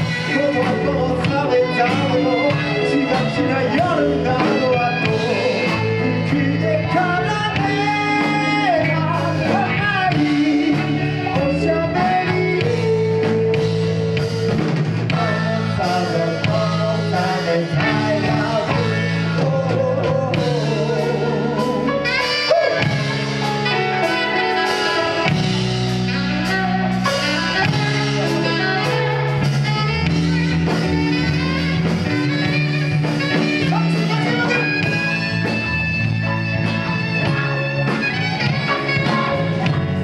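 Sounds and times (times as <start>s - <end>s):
bass line: 0.0s - 40.0s
live band music: 0.0s - 40.0s
steady drum beat: 0.0s - 40.0s.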